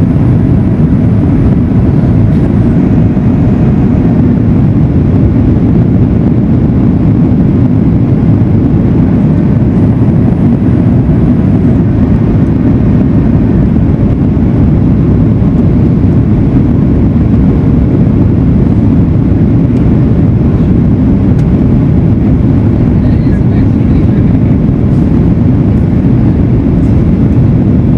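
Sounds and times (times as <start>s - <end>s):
airplane cabin engine roar: 0.0s - 27.9s.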